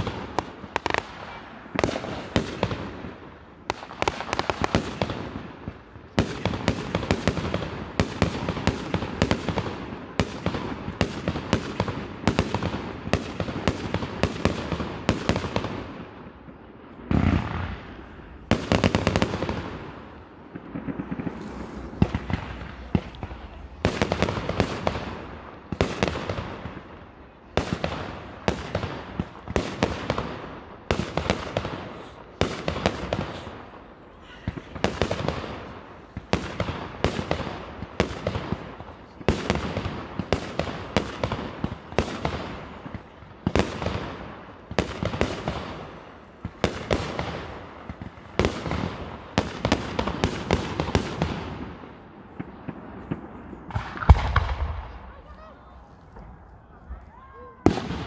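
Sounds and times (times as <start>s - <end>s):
fireworks bangs with crackle: 0.0s - 58.0s.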